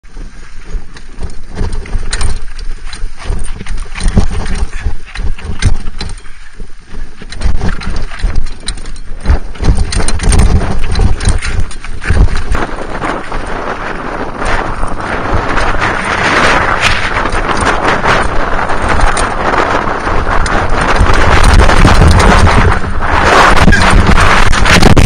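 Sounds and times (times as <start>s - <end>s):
wind rumble on microphone: 0.0s - 25.0s
bike clattering and rattling: 0.1s - 25.0s.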